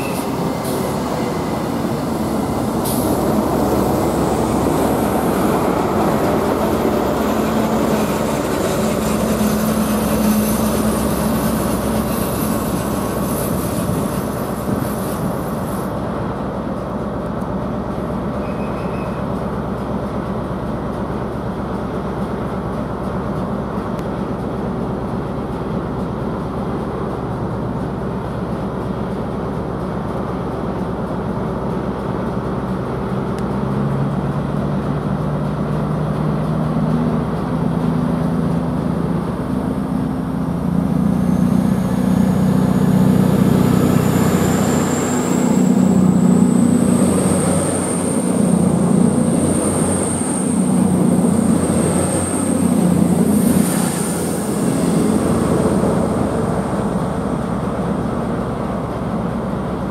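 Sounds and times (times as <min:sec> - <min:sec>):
diesel train approaching: 0:00.0 - 0:59.9
diesel train engine running: 0:00.0 - 0:59.9.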